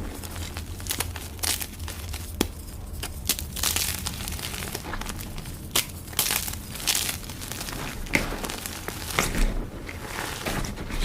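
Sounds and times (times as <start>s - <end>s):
chalk blocks cracking: 0.0s - 11.0s
chalk crumbling crunches: 0.0s - 11.0s.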